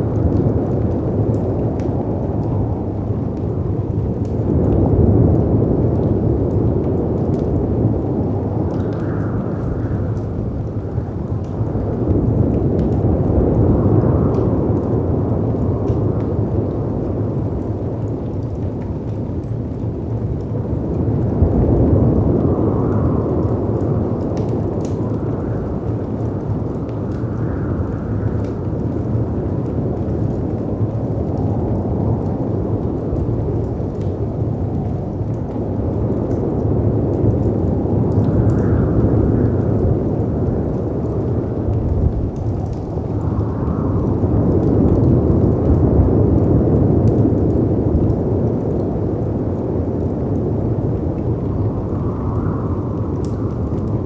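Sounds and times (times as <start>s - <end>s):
storm wind: 0.0s - 54.0s
wood fire crackling: 0.0s - 54.0s.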